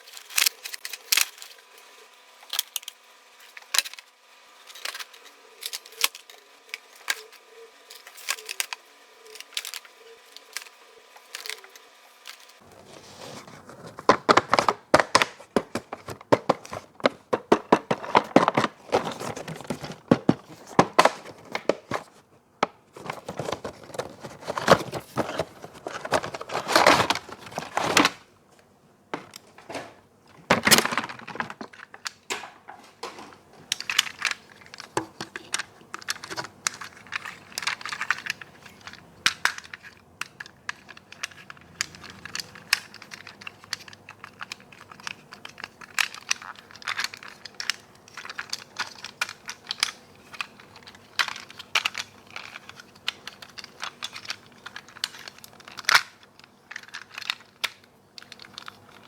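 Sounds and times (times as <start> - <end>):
plastic and cardboard crinkling: 0.0 - 59.0.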